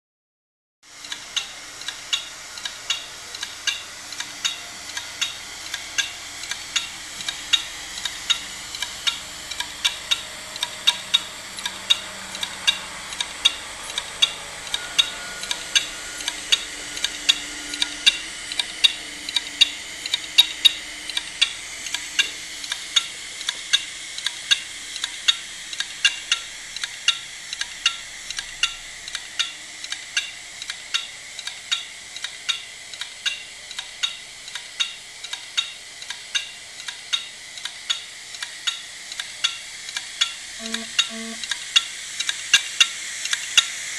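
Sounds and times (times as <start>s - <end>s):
hard disk platter hissing: 0.9s - 43.9s.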